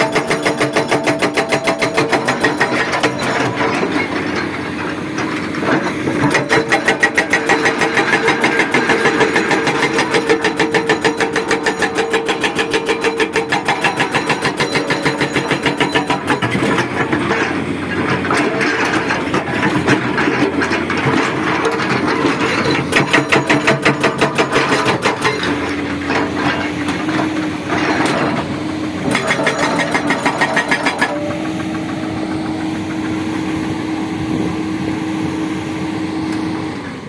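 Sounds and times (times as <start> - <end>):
hydraulic breaker hammering: 0.0 - 34.6
diesel engine running: 2.1 - 37.0.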